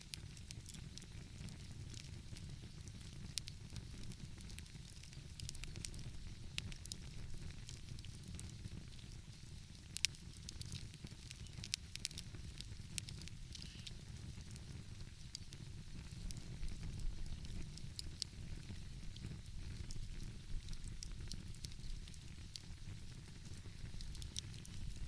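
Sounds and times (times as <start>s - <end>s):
fire popping: 0.0s - 25.0s
wood fire crackling: 0.0s - 25.0s.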